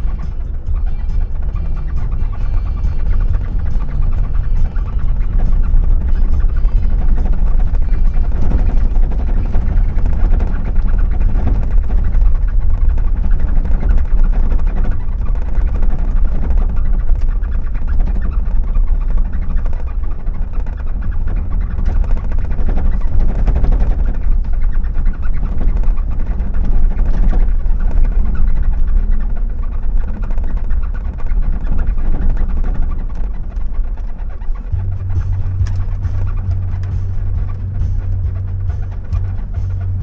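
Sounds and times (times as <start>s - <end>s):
car engine rumble: 0.0s - 40.0s
tyre noise: 0.0s - 40.0s.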